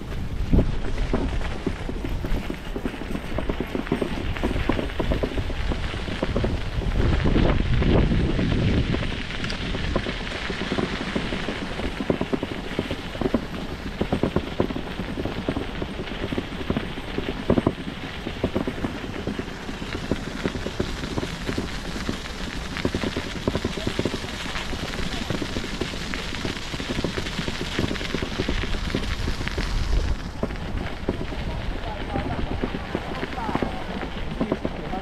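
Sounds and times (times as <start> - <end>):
bicycle tyres crunching on grit: 0.0 - 35.0
small stones crackling and popping: 0.0 - 35.0.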